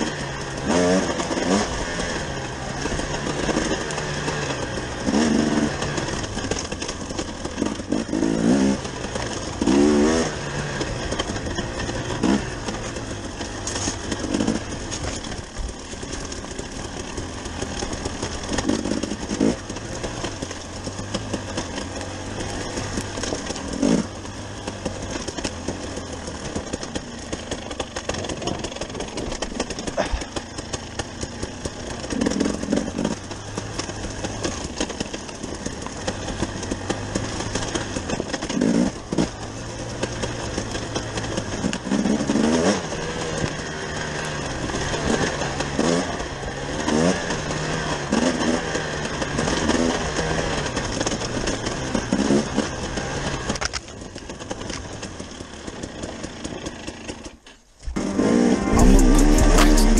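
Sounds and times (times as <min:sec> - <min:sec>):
dirt bike engine revving: 0:00.0 - 0:53.6, 0:57.9 - 0:59.9.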